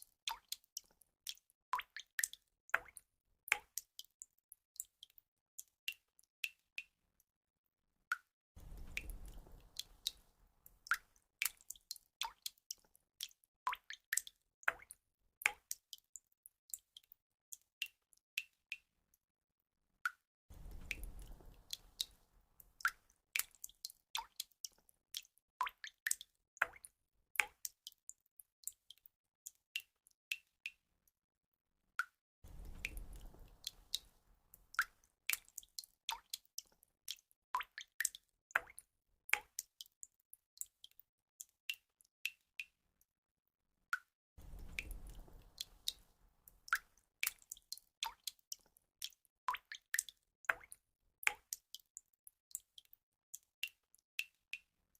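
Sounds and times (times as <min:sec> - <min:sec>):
water dripping: 0:00.0 - 0:07.3, 0:08.1 - 0:19.2, 0:20.0 - 0:30.9, 0:32.0 - 0:42.8, 0:43.9 - 0:54.9.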